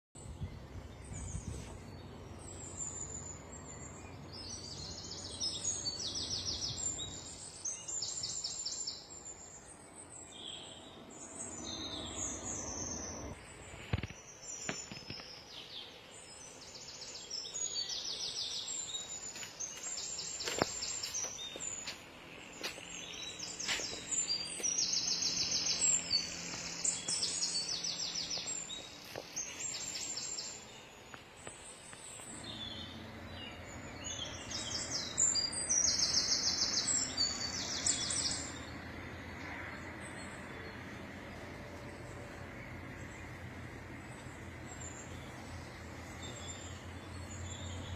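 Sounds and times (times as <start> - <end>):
songbirds trilling: 0.2 - 47.9.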